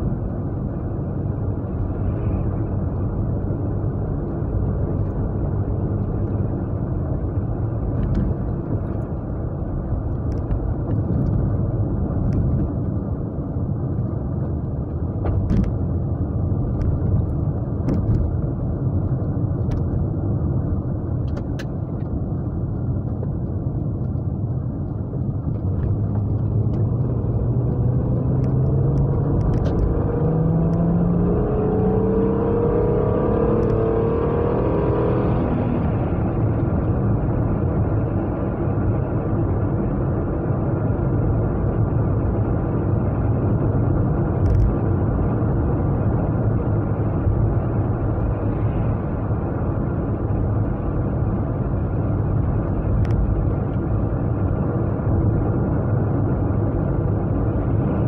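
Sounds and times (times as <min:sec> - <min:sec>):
car engine drone from cabin: 0:00.0 - 0:58.0.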